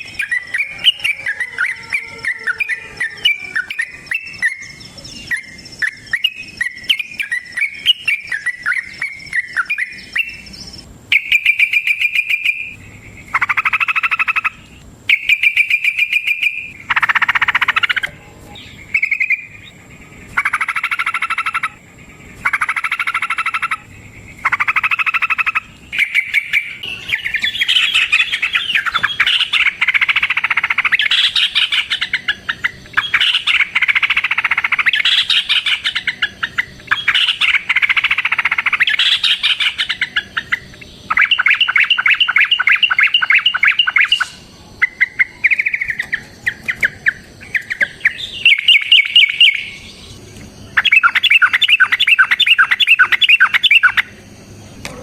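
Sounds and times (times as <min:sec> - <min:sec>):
bird singing chattering runs: 0:00.0 - 0:54.8.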